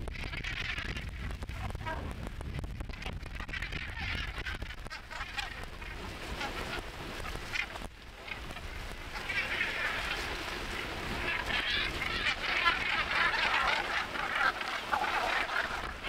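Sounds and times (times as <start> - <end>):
seabirds croaking: 0.0 - 16.0.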